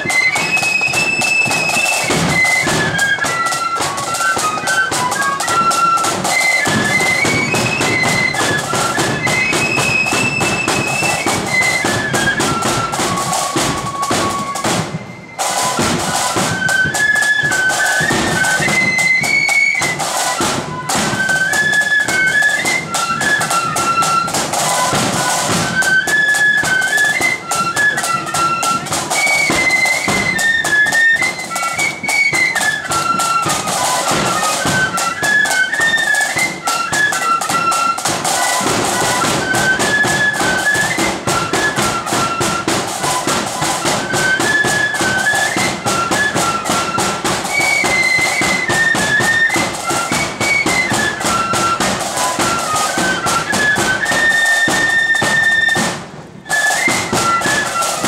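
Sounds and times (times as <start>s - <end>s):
flute band playing: 0.0s - 58.0s
march drumming: 0.0s - 58.0s.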